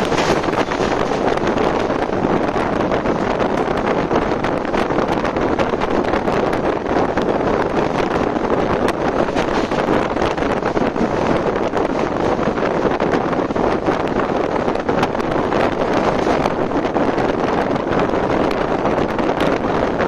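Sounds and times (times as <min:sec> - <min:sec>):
train wheels on rails: 0:00.0 - 0:20.0
wind rushing over microphone: 0:00.0 - 0:20.0.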